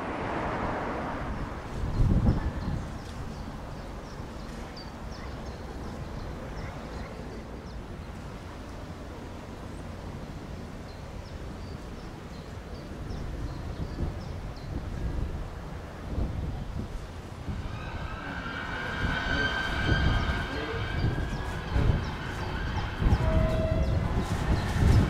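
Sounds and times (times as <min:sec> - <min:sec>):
wind buffeting microphone: 0:00.0 - 0:08.5, 0:11.3 - 0:25.0.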